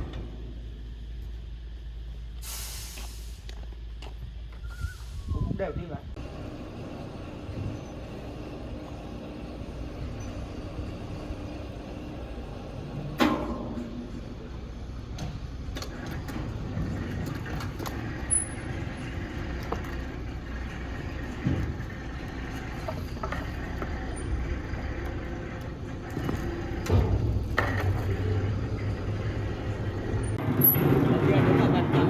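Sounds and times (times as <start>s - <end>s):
sawmill machinery rumble: 0.0s - 32.0s.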